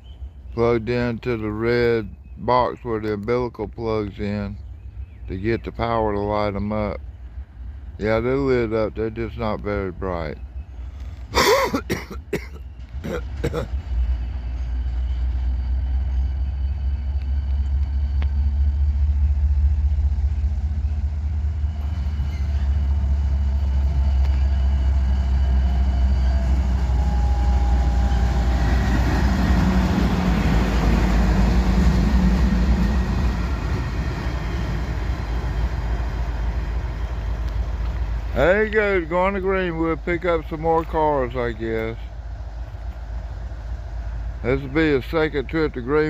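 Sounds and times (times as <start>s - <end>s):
diesel locomotive engine rumbling: 0.0s - 46.0s
rail and running noise: 0.0s - 46.0s.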